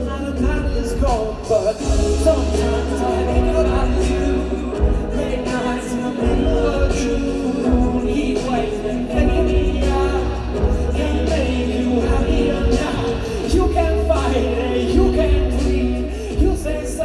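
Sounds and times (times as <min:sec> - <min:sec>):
heavy steady bass: 0:00.0 - 0:17.0
live pop band with singing: 0:00.0 - 0:17.0.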